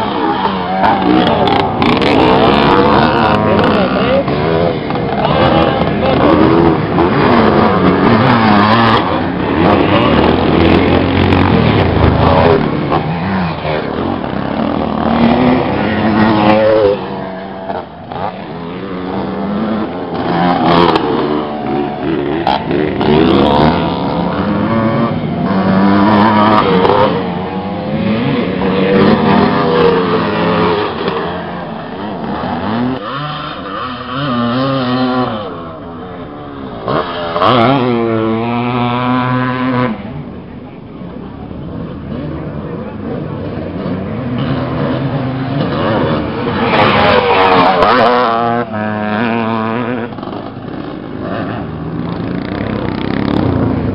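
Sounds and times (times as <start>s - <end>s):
motocross bikes revving: 0.0s - 53.9s.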